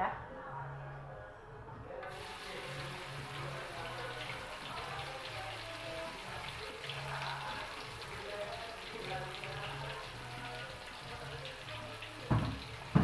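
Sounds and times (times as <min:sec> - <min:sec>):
spice paste sizzling in oil: 0:02.0 - 0:13.0.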